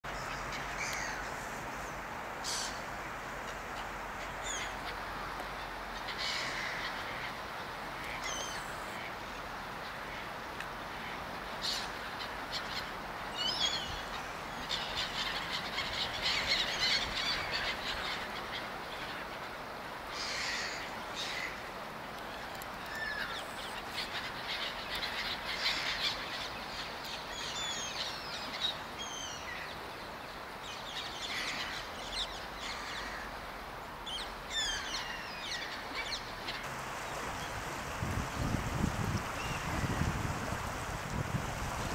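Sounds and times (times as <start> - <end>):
steady hiss: 0.1 - 41.9.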